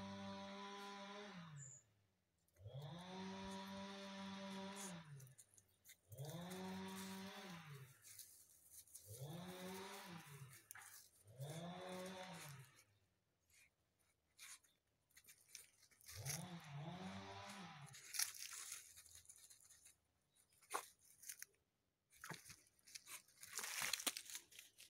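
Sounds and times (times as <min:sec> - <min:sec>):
claws scraping through dirt: 0:03.3 - 0:24.9.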